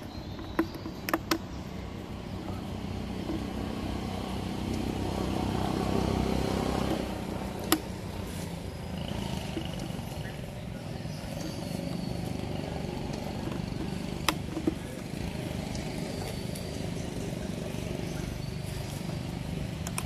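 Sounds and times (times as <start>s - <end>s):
motorbike engine running: 0.0s - 20.0s.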